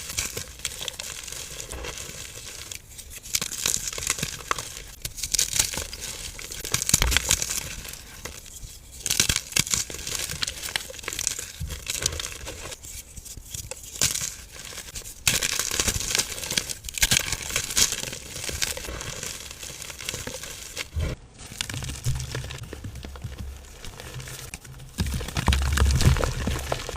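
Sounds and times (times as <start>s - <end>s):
hands crushing dry powdery blocks: 0.0s - 26.9s.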